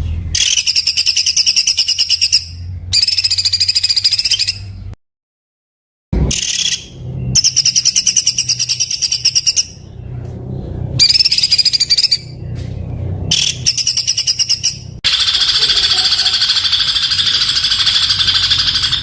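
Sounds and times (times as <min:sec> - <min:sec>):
songbird rapid harsh trills: 0:00.0 - 0:04.8, 0:06.2 - 0:09.9, 0:11.0 - 0:12.4, 0:13.3 - 0:19.0.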